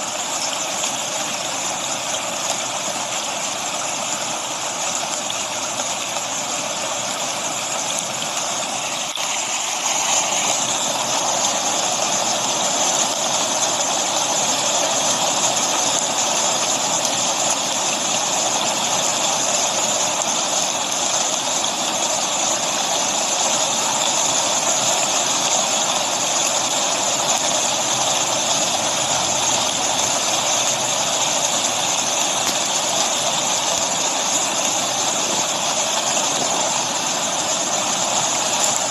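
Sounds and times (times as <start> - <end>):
rain: 0.0 - 38.9
waterfall: 0.0 - 38.9.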